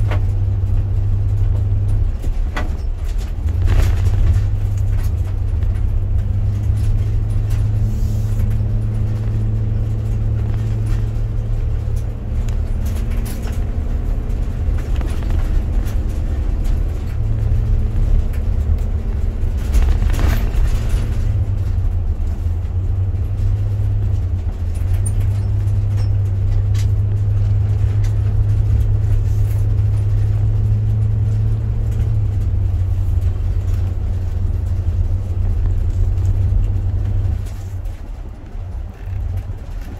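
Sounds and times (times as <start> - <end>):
car engine and tyre drone: 0.0 - 39.9.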